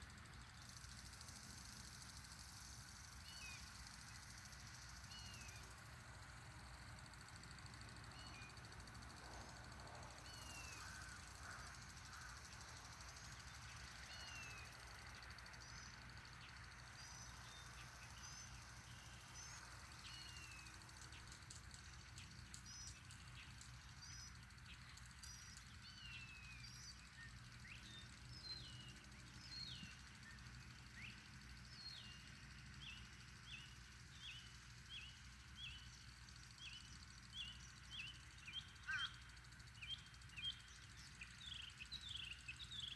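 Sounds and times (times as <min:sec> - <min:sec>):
faint birdsong chirps: 0:00.0 - 0:42.9.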